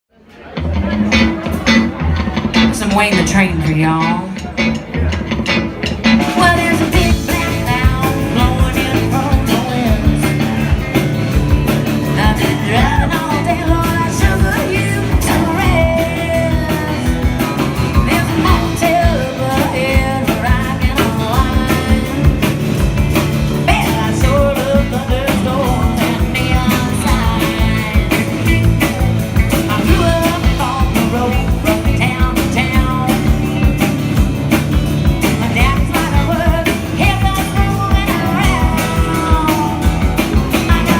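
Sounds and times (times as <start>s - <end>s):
live rock band playing: 0.1s - 40.9s
guitar melody: 0.4s - 40.9s.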